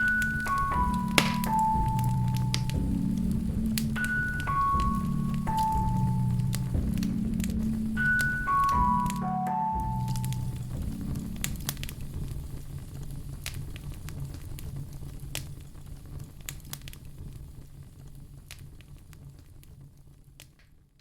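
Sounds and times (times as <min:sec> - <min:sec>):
low steady rumble: 0:00.0 - 0:20.4
wood fire crackling: 0:00.0 - 0:21.0.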